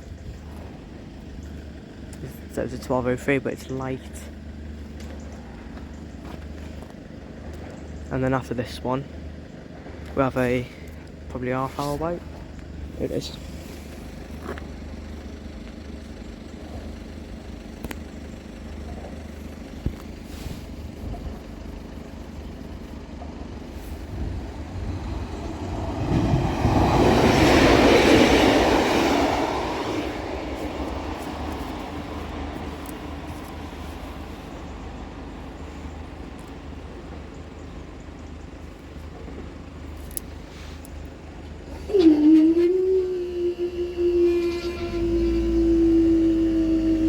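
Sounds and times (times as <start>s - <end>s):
train passing: 0.0s - 47.0s.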